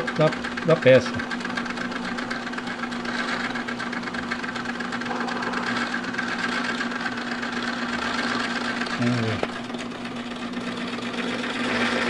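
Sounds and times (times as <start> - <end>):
bench lathe humming and rattling: 0.0 - 12.0.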